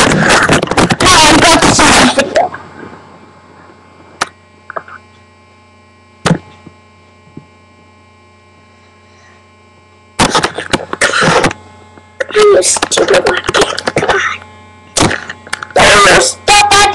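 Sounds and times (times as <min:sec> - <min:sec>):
electrical hum with buzz: 0:00.0 - 0:16.9.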